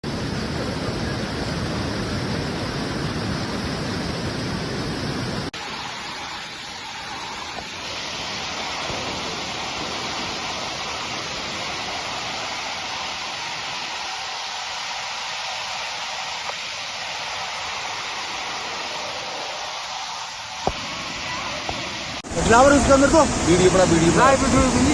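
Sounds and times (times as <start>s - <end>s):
hissy water noise: 0.0s - 24.9s
water rushing in heavy flow: 0.0s - 24.9s.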